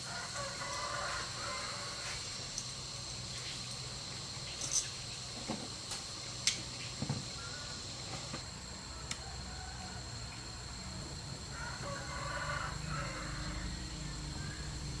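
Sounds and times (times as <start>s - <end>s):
high-pitched insect drone: 0.0s - 15.0s
low background hum: 0.0s - 15.0s.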